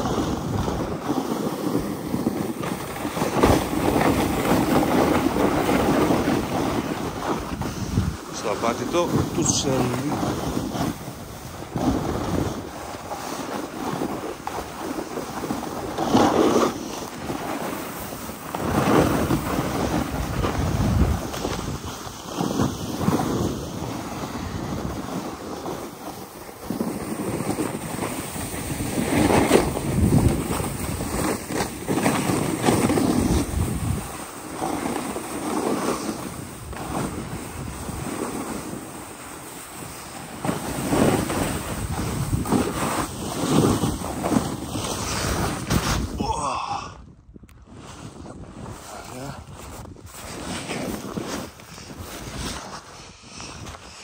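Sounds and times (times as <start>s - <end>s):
snowboard scraping over snow: 0.0s - 46.3s, 47.6s - 54.0s
wind on microphone: 0.0s - 54.0s.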